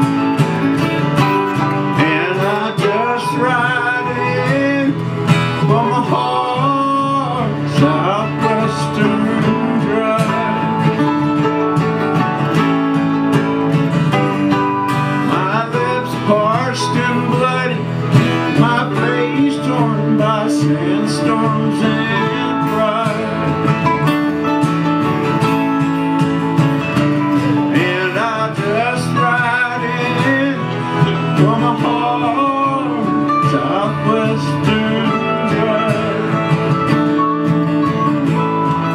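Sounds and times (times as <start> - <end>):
acoustic guitars: 0.0 - 38.9
mandolin: 0.0 - 38.9.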